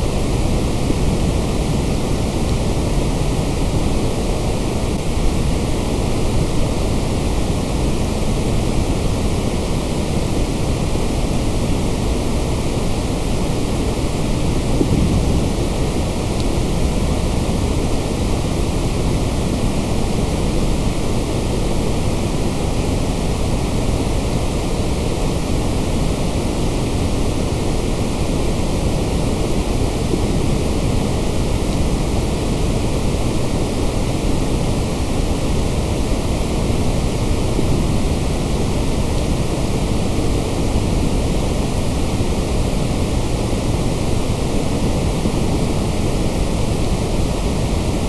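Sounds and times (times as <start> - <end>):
white noise hiss: 0.0 - 48.0.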